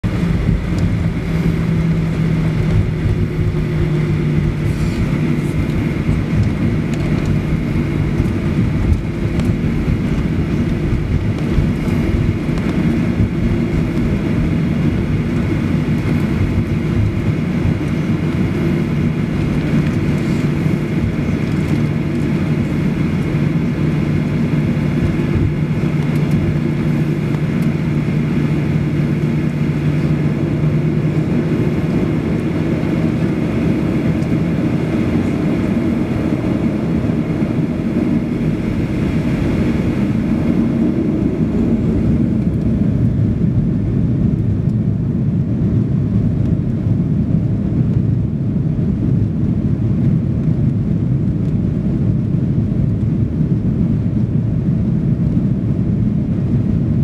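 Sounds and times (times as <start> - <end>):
airframe rumble: 0.0 - 57.0
jet engines humming: 0.0 - 57.0.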